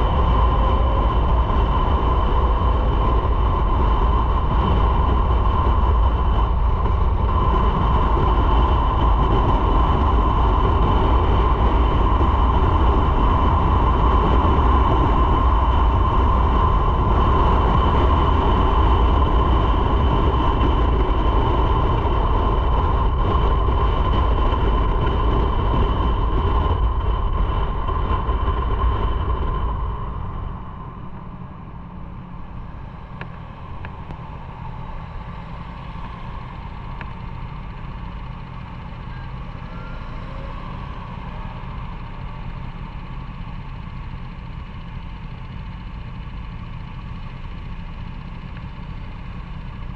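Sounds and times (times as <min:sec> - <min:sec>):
faint steady whine: 0:00.0 - 0:49.9
motorcycle engine and wind roar: 0:00.0 - 0:49.9.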